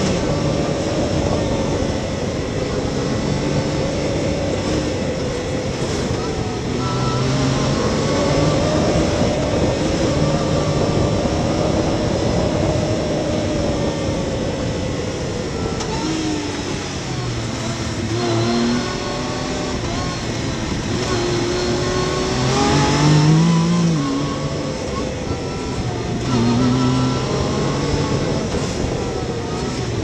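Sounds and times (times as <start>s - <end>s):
engine running hard: 0.0s - 30.0s
wind and tyre noise: 0.0s - 30.0s.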